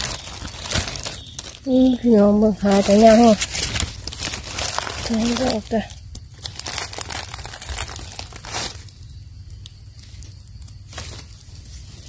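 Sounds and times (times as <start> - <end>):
dry leaves crackling: 0.0 - 12.0.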